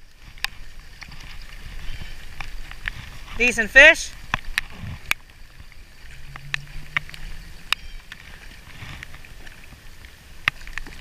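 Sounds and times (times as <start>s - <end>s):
rain on a river: 0.0s - 11.0s
raindrops ticking near microphone: 0.0s - 11.0s.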